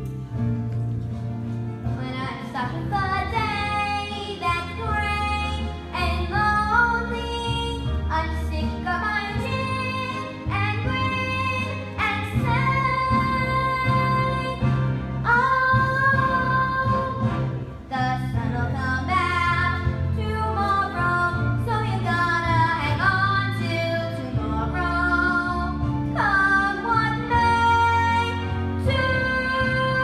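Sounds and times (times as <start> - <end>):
instrumental accompaniment: 0.0 - 30.0
girl singing: 2.0 - 14.6, 15.2 - 17.2, 17.9 - 30.0.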